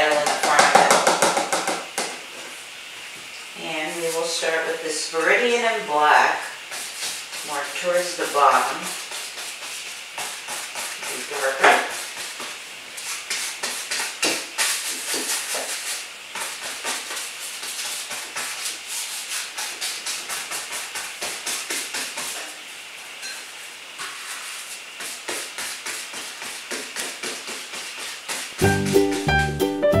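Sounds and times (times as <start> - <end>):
paintbrush scrubbing on canvas: 3.6 - 22.6, 23.5 - 29.3.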